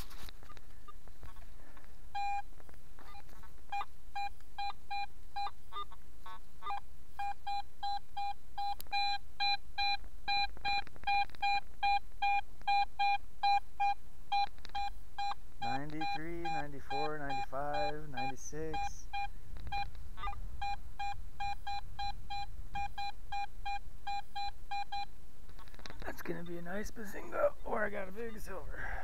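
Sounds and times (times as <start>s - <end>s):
metal detector beeping: 2.1s - 5.9s, 6.6s - 26.9s.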